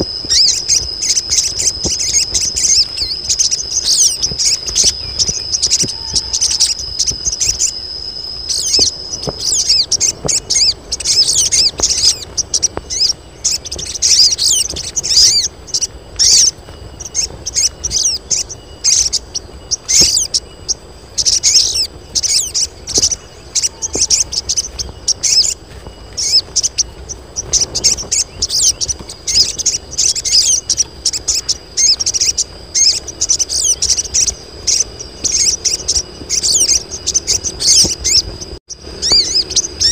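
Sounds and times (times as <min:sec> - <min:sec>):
birds chirping and trilling: 0:00.0 - 0:39.9
thin high tone: 0:00.0 - 0:39.9.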